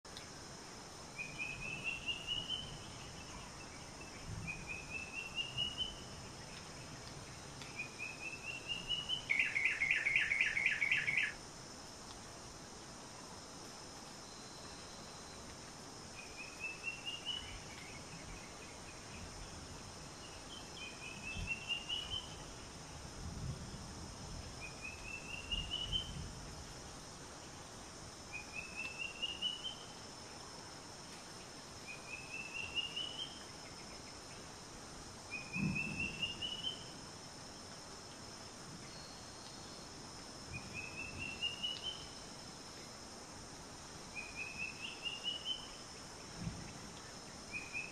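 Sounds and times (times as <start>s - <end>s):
high insect drone: 0.1s - 47.9s.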